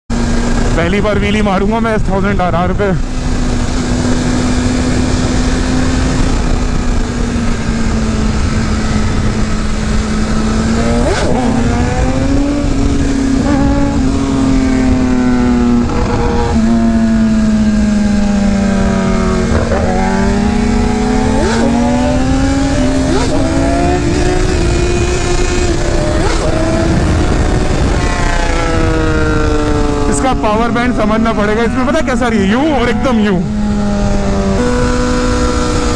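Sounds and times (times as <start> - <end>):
motorcycle engine revving: 0.1 - 35.9
wind and road noise: 0.1 - 35.9.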